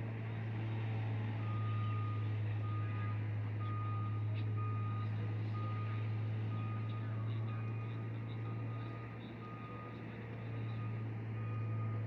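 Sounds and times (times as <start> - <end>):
low engine hum: 0.0 - 12.0
reversing alarm beeping: 1.4 - 12.0.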